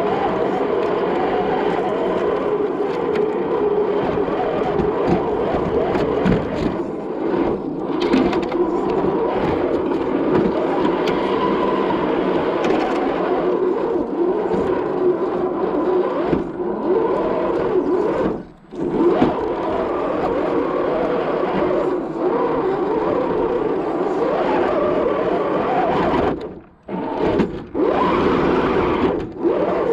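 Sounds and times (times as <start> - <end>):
electric motor and gears whining: 0.0 - 29.9.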